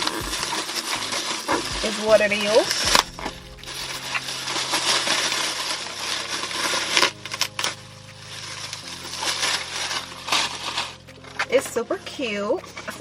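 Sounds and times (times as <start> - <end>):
packaging rustling and crinkling: 0.0 - 11.8.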